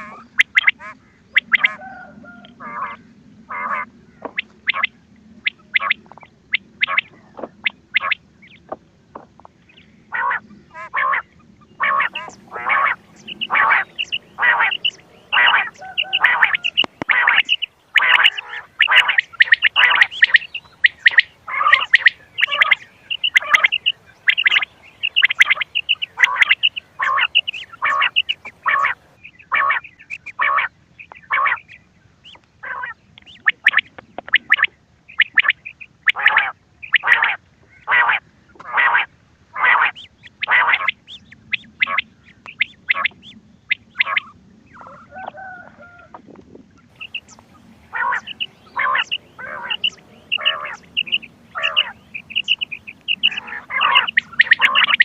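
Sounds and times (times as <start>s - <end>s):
drawn-out quail call: 0.0s - 8.7s, 9.7s - 46.3s, 46.9s - 55.0s
short sharp quail calls: 0.0s - 8.8s, 9.7s - 46.2s, 46.9s - 55.0s.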